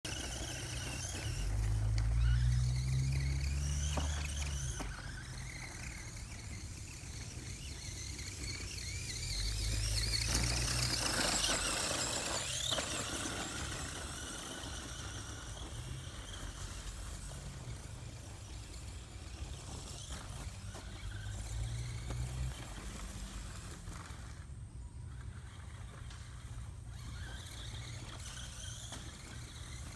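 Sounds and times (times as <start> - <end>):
toy truck electric motor whining: 0.1 - 29.9.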